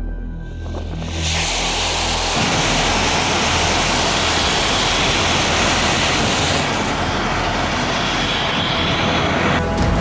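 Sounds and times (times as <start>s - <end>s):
rocket motor rushing roar: 0.6s - 9.6s.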